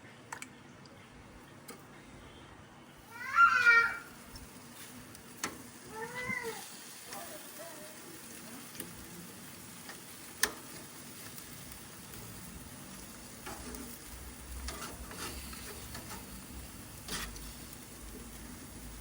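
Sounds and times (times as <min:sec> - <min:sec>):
food sizzling on a grill: 0:03.0 - 0:19.0.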